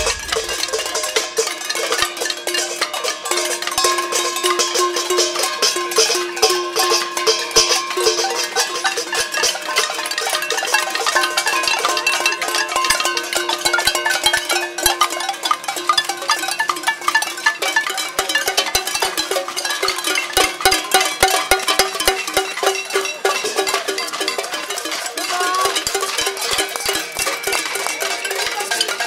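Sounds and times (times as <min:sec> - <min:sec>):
pots and pans being banged: 0:00.0 - 0:29.0.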